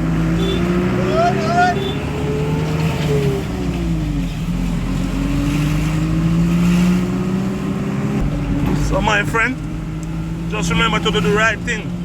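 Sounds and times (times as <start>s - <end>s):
car engine accelerating: 0.0s - 12.0s
low road rumble: 0.0s - 12.0s.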